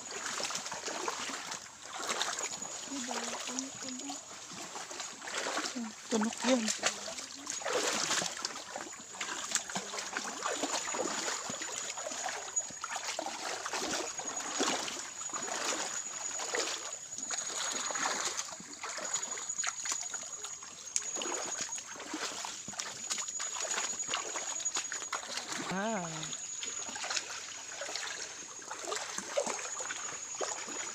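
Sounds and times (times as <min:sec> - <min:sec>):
feet wading through creek water: 0:00.0 - 0:30.9.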